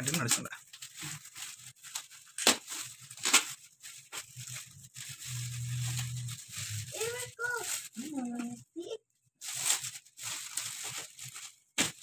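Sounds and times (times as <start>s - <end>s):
packaging ripping: 0.0s - 8.1s, 9.4s - 12.0s
packaging rustling: 0.0s - 12.0s.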